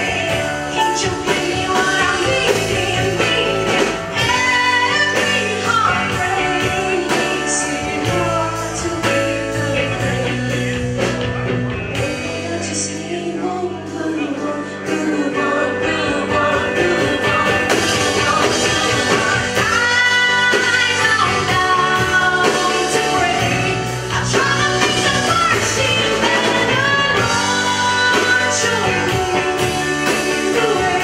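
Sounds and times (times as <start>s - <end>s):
women singing: 0.0s - 11.3s, 12.0s - 31.0s
live band playing: 0.0s - 31.0s.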